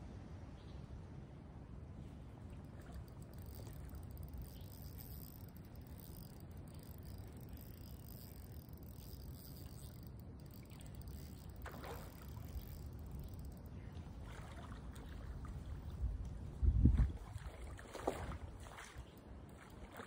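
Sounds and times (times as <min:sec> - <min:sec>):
gently moving water: 0:02.0 - 0:20.0.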